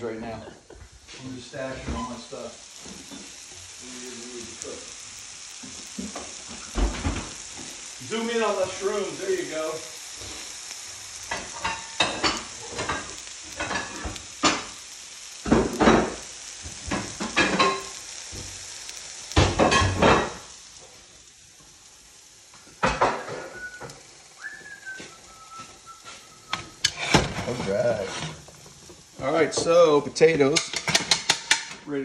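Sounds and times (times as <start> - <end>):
mushrooms sizzling in a skillet: 0.0 - 32.0
utensil scraping and clattering in pan: 0.5 - 20.9, 25.0 - 31.8.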